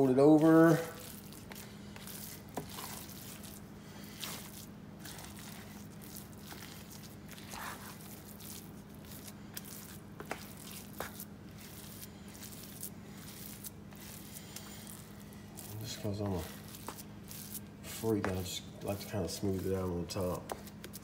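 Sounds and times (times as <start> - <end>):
spatula squishing wet dressing: 0.0 - 21.0.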